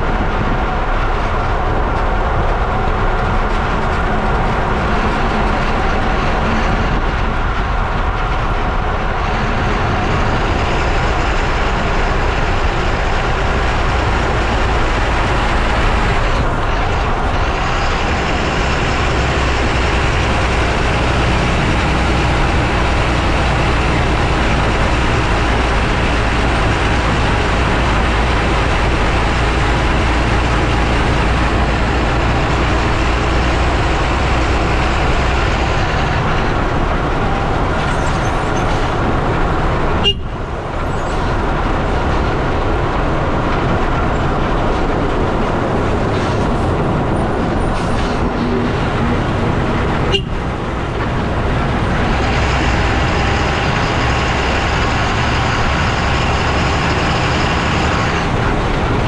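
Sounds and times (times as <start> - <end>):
lorry engine: 0.0 - 59.0
lorry road and tyre noise: 0.0 - 59.0.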